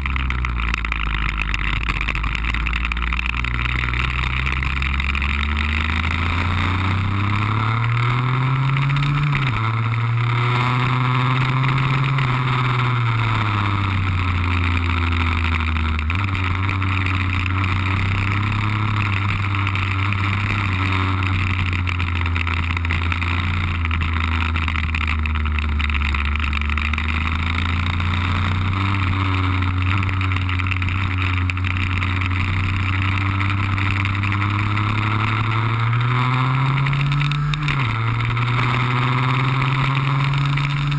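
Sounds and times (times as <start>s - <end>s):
two-stroke scooter engine: 0.0s - 40.9s.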